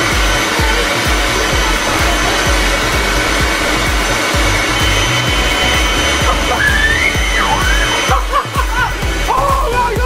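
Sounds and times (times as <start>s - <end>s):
leaf blower running: 0.0s - 10.0s.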